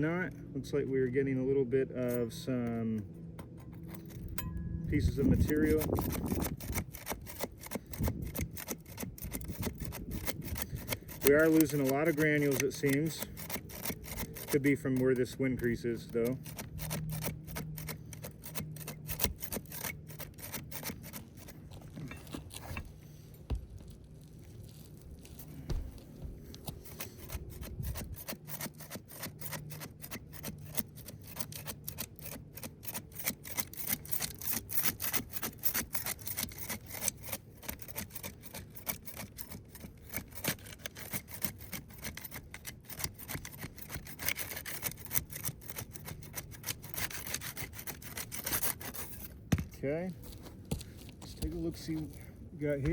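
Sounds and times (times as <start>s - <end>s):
hand tools scraping shingles: 0.6s - 52.9s.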